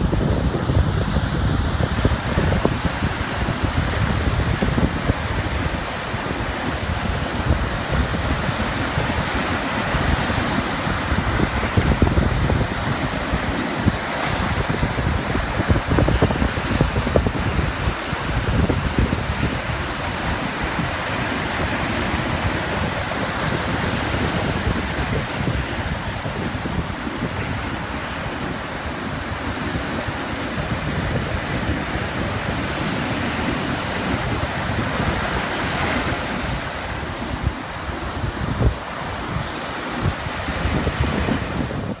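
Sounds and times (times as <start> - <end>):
ocean waves lapping on beach: 0.0 - 42.0
wind buffeting microphone: 0.0 - 42.0.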